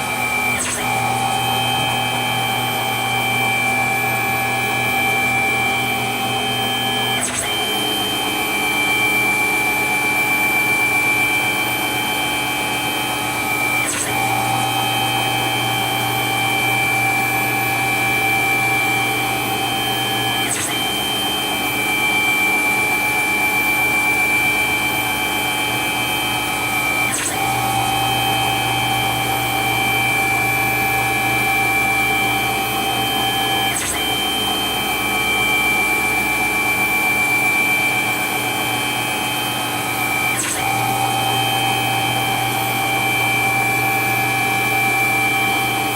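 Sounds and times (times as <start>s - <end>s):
lathe machine whine: 0.0s - 45.9s.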